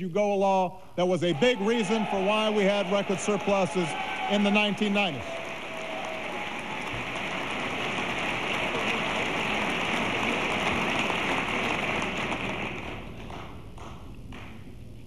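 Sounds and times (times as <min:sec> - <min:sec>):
crowd applauding: 0:01.2 - 0:14.7.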